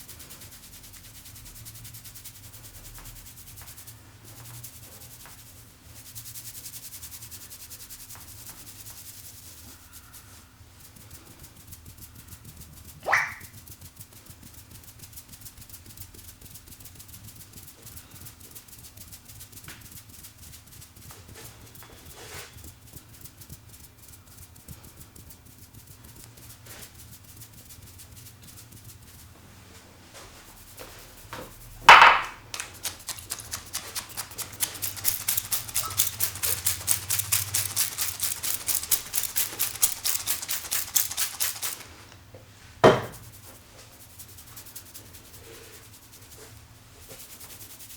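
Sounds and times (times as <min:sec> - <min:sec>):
brisk hissing strokes over hair: 0:00.0 - 0:31.8, 0:32.6 - 0:42.0
faint rubbing over scalp: 0:00.0 - 0:31.8, 0:32.6 - 0:42.0, 0:43.1 - 0:47.9.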